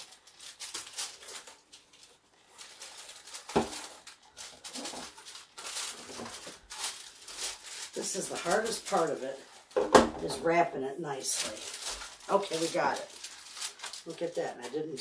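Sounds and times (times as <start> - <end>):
cling wrap crinkling and rustling: 0.0 - 15.0
sharp crackle of plastic: 0.0 - 15.0.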